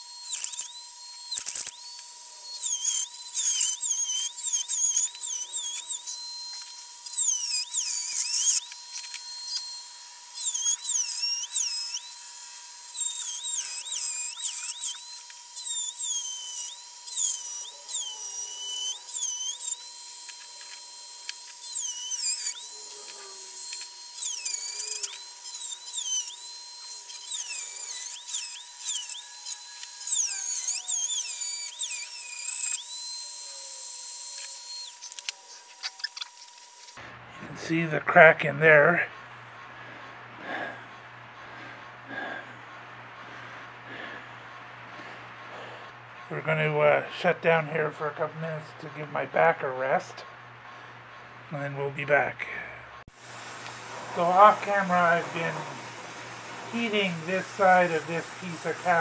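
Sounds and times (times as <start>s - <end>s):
rotary tool grinding iron: 0.0s - 59.0s.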